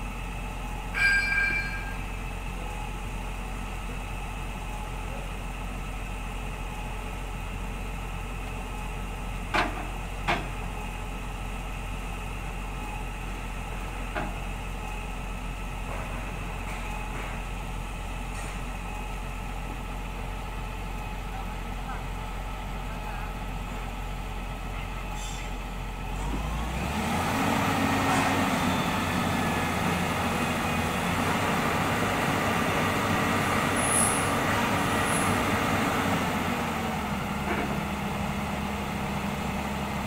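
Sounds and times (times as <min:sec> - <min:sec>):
diesel engine idling: 0:01.8 - 0:40.0.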